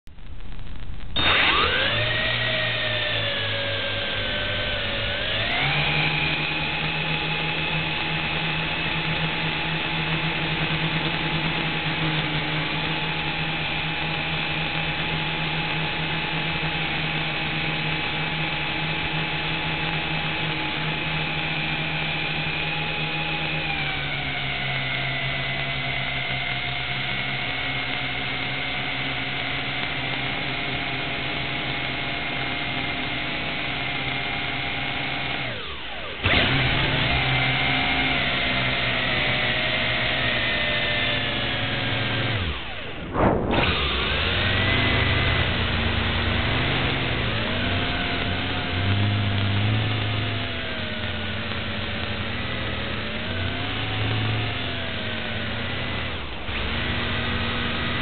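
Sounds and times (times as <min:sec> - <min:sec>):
drone motors whining: 0:01.1 - 0:58.0.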